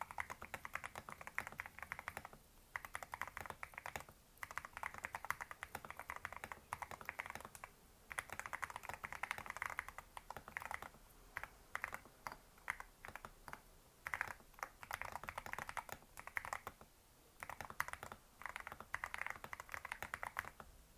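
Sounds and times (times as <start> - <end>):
mechanical keyboard typing: 0.0 - 16.8, 17.4 - 20.7.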